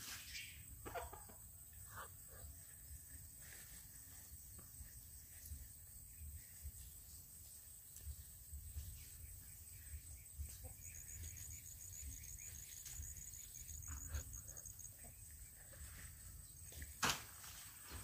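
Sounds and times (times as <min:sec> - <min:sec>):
faint ticks and rustles: 0:01.7 - 0:18.0.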